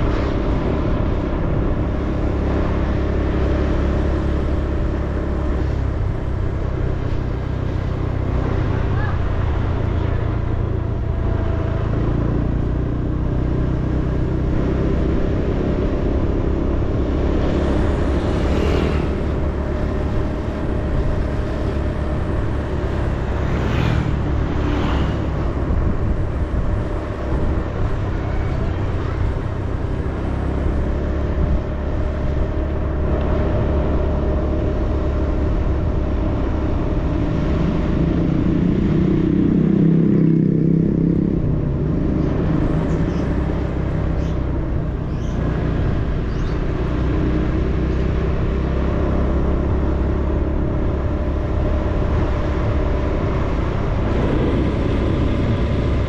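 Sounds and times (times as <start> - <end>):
motorcycle passing whoosh: 0.0 - 56.0
vehicle engine and road noise: 0.0 - 56.0.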